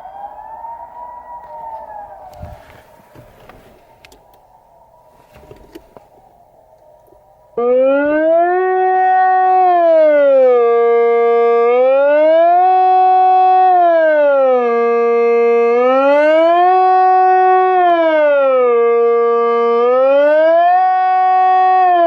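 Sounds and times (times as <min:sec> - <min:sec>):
siren wailing: 0:00.0 - 0:22.0.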